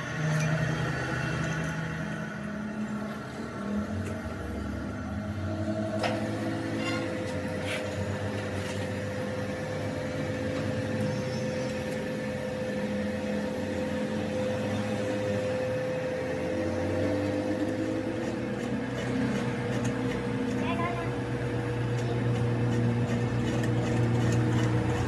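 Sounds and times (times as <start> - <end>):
metal lathe humming: 0.2 - 25.0.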